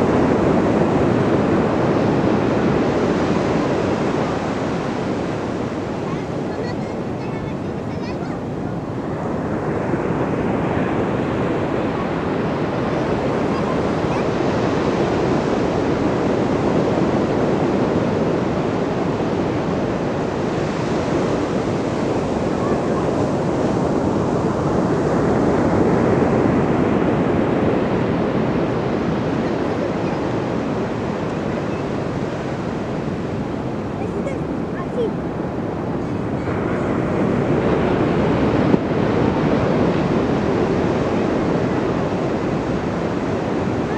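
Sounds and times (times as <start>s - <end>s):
waves breaking: 0.0s - 43.9s.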